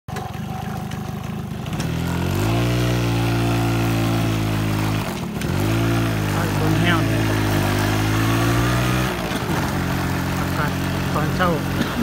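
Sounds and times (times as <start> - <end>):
engine speeding up: 0.1 - 12.0.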